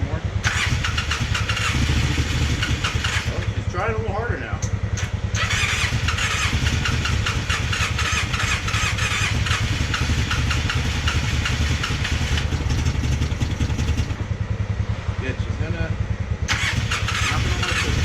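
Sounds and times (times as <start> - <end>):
engine turning over and sputtering: 0.4 - 14.6, 16.4 - 18.0.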